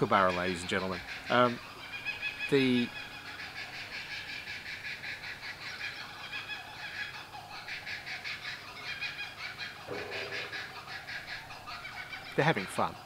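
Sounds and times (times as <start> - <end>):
kookaburras cackling: 0.0 - 13.0.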